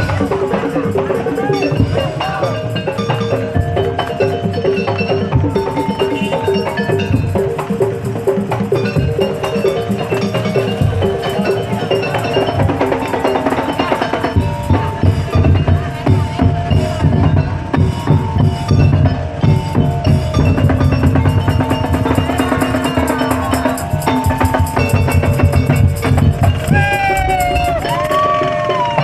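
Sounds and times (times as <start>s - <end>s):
steady pitched melody: 0.0s - 28.7s
drums and wooden percussion: 0.0s - 29.0s
sliding high melody: 0.0s - 29.0s.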